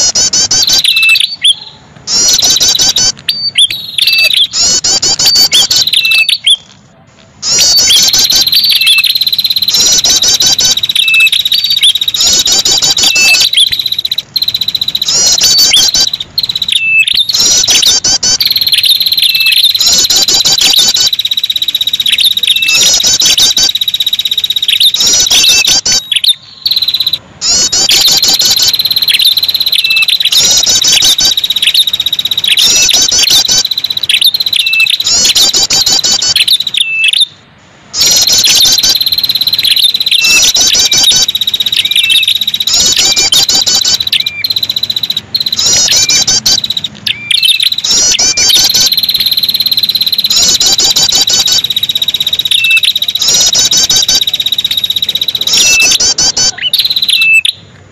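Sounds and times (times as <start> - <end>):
high-pitched bird chattering trills: 0.0 - 57.7
shrill high buzz: 7.5 - 57.6.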